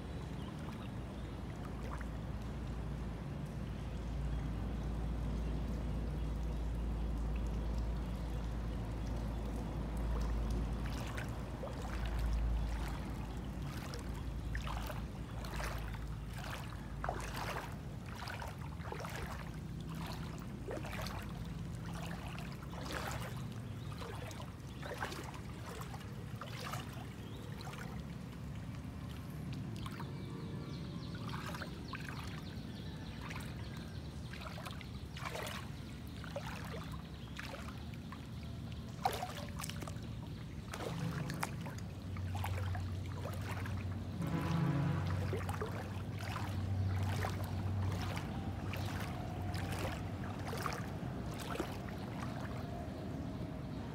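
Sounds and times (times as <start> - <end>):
floodwater splashing: 0.0 - 53.9.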